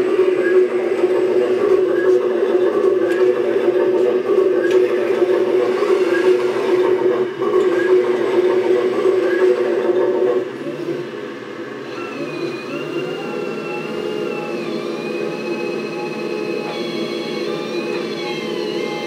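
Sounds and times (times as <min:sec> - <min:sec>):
hydraulic pump whine: 0:00.0 - 0:19.0.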